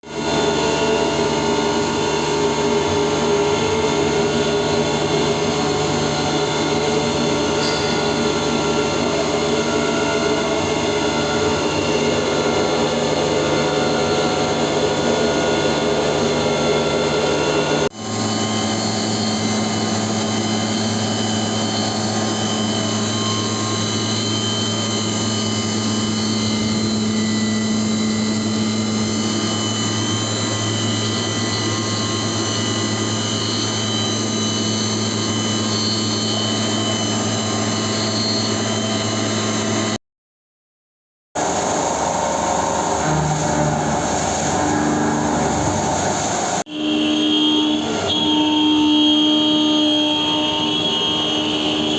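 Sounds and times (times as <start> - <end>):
milling machine humming and whining: 0.0 - 40.0, 41.4 - 51.9.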